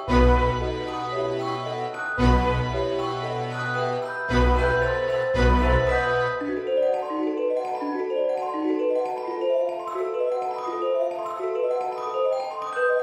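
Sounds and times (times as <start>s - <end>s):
mallet percussion melody: 0.0s - 13.0s.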